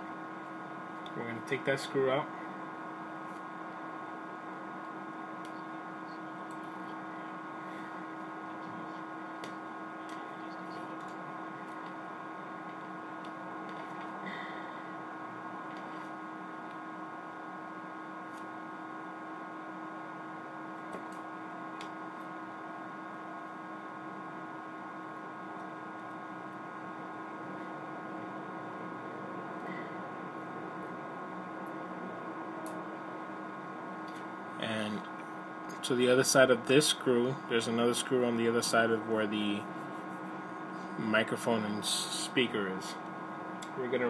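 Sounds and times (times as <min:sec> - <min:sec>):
steady electrical hum: 0:00.0 - 0:44.0.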